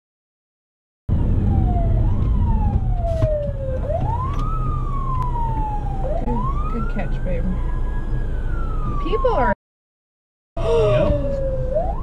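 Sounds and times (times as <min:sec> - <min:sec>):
ambulance siren wailing: 0:01.1 - 0:09.6, 0:10.6 - 0:12.0
low road rumble: 0:01.1 - 0:09.6, 0:10.6 - 0:12.0.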